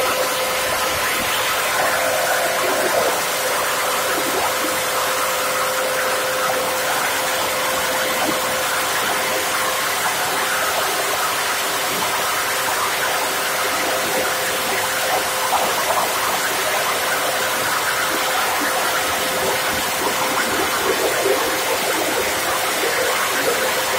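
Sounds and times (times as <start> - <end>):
plastic bottle grinder whirring: 0.0 - 23.9.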